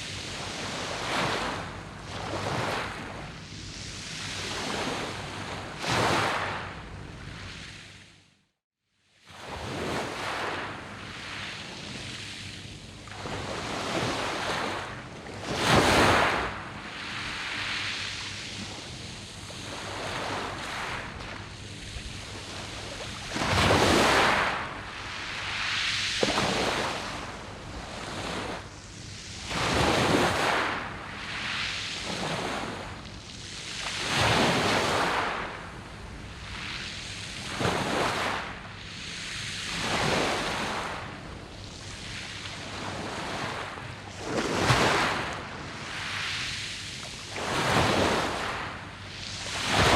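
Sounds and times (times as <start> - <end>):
waves washing over pebbles: 0.2 - 6.8, 9.4 - 49.9.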